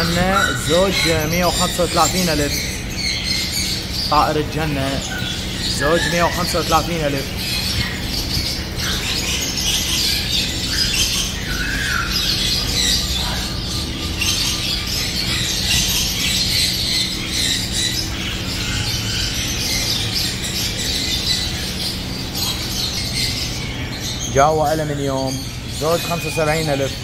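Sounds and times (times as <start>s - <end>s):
finches chirping and chattering: 0.0s - 27.0s
steady low hum: 0.0s - 27.0s.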